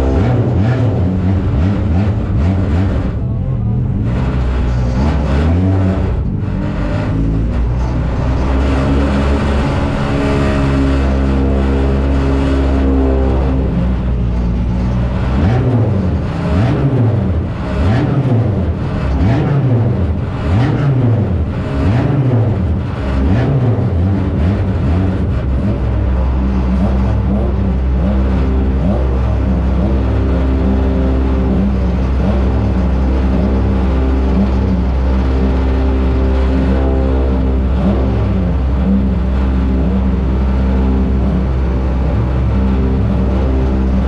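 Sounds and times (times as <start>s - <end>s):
car engine revving and idling: 0.0s - 44.0s.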